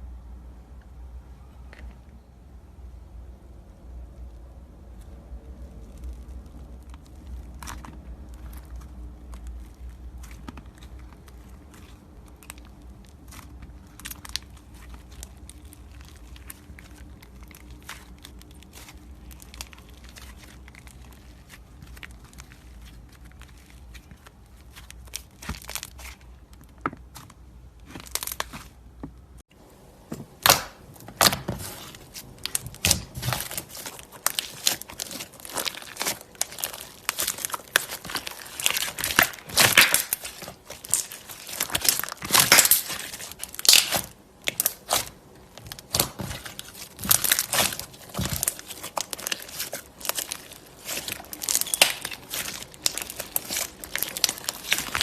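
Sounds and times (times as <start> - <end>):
slime crackling and popping: 5.0 - 28.8, 30.3 - 55.0.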